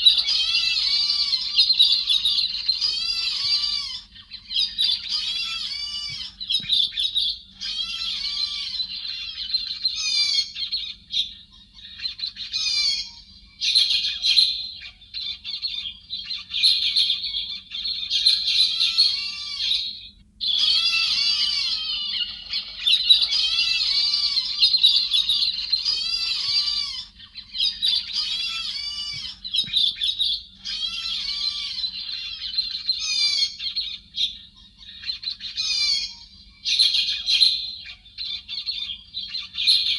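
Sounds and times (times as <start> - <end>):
birds chattering: 0.0 - 39.9
faint steady hum: 0.0 - 39.9.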